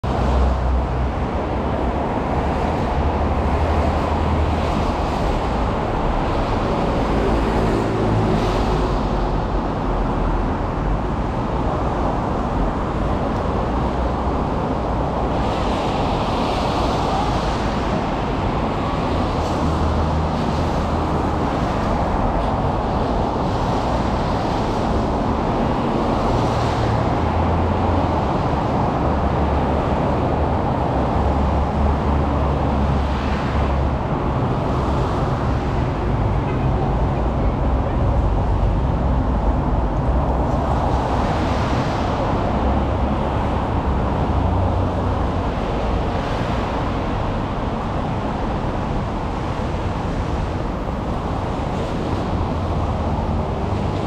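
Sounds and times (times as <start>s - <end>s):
cars passing on wet road: 0.0s - 54.0s.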